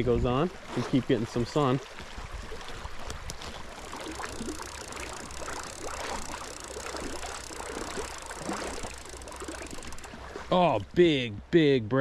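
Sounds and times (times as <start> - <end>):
creek water babbling over gravel: 0.0 - 11.7.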